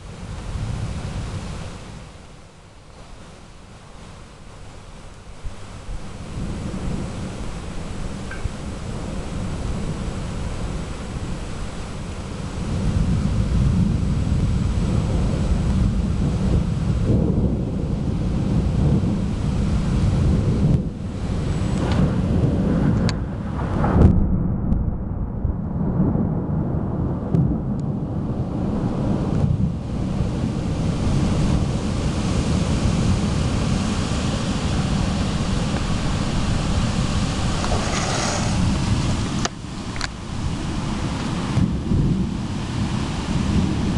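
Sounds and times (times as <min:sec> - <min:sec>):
rain hissing: 0:00.0 - 0:24.0, 0:27.8 - 0:43.9
thunder rumbling: 0:04.1 - 0:43.9.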